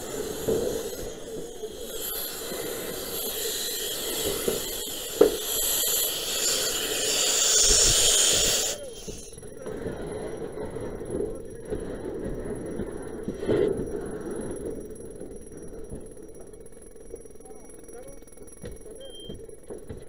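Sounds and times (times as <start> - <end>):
steady hiss: 0.0 - 17.6.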